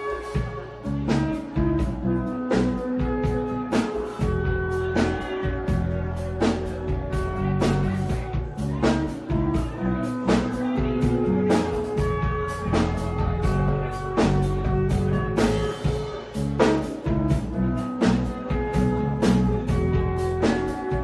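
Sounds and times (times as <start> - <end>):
electric bass: 0.0 - 21.0
electric guitar: 0.0 - 21.0
steady drum beat: 0.0 - 21.0.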